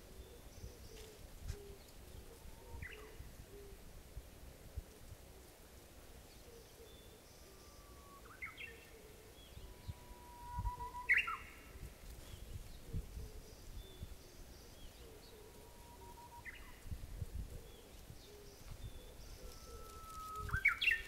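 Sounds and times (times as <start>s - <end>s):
bush warbler singing: 0.0s - 3.7s, 6.2s - 21.0s.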